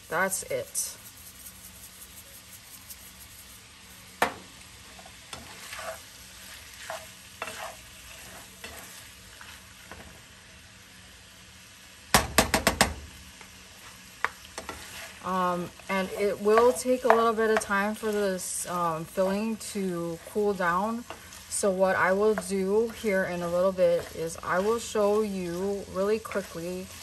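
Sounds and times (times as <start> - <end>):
spatula stirring in pan: 0.0 - 10.4, 13.8 - 27.0
meat sizzling in a pan: 0.0 - 27.0.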